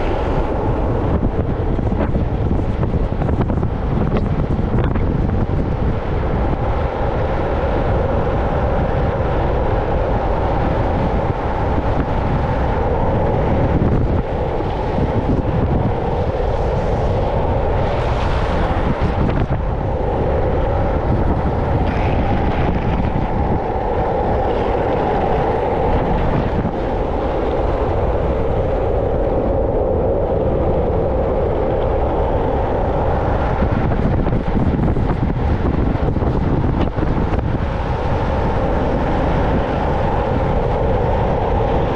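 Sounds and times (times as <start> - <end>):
wheels rolling on rough asphalt: 0.0 - 41.9
wind rushing over microphone: 0.0 - 41.9.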